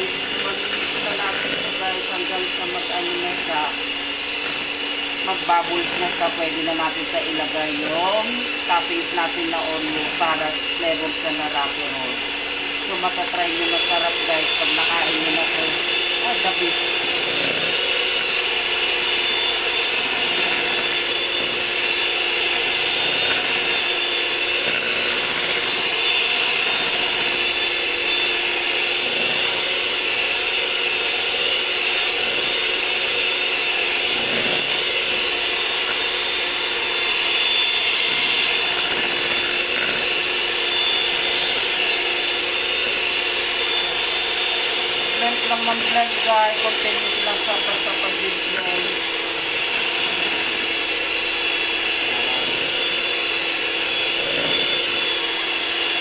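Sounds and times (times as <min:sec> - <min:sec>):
electric hand mixer whine: 0:00.0 - 0:56.0.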